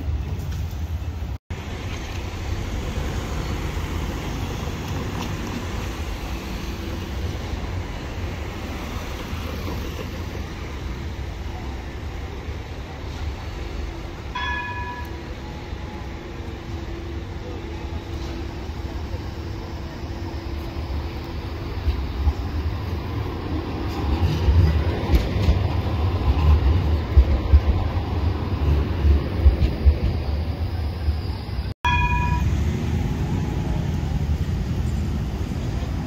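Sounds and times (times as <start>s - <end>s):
street traffic rumble: 0.0s - 36.0s
tram running on rails: 0.0s - 36.0s.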